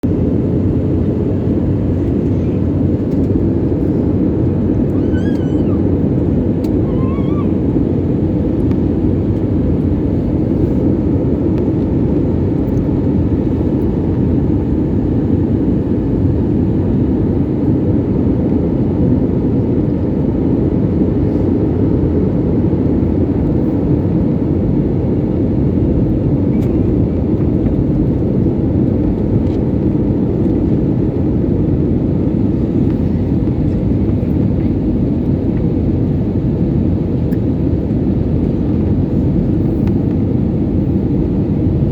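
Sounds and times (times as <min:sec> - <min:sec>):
airliner cabin engine roar: 0:00.0 - 0:41.9.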